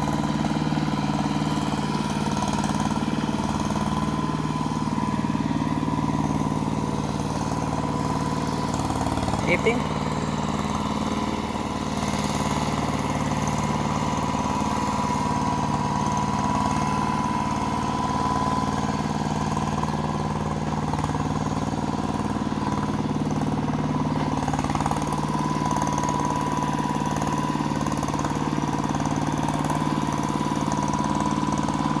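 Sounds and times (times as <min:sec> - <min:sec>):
hand tractor engine running: 0:00.0 - 0:32.0.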